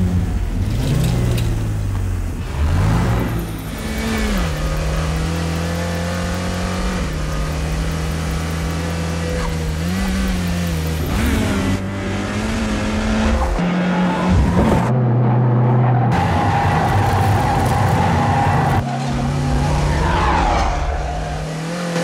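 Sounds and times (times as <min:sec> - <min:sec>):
car engine running at speed: 0:00.0 - 0:22.0.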